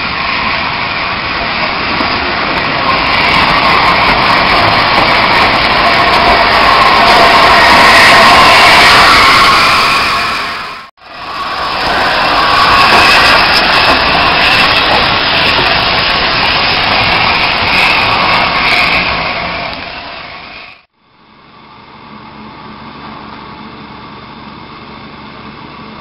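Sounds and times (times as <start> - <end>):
distant steam locomotive: 0.0 - 26.0
steam locomotive passing: 0.0 - 26.0.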